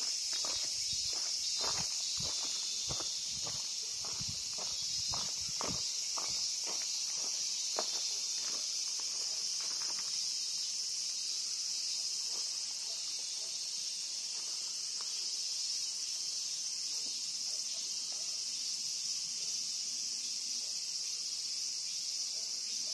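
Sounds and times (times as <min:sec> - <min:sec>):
insects shrilling: 0:00.0 - 0:22.9.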